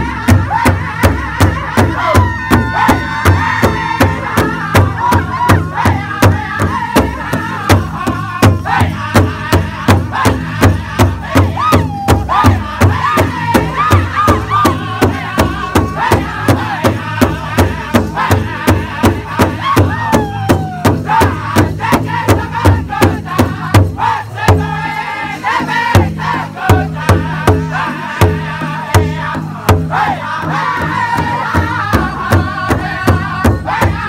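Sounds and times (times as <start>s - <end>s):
large hide drum beat: 0.0s - 34.0s
men singing high-pitched chant: 0.0s - 34.0s.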